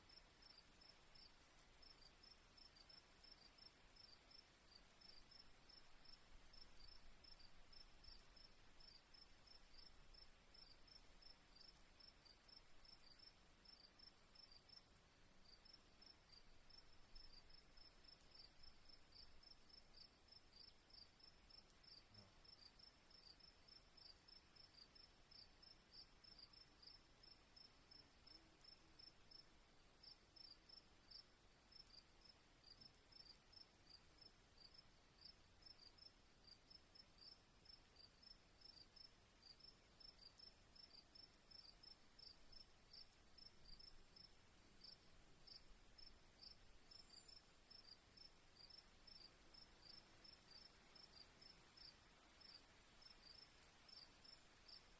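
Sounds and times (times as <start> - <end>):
faint crickets chirping: 0.0 - 54.9.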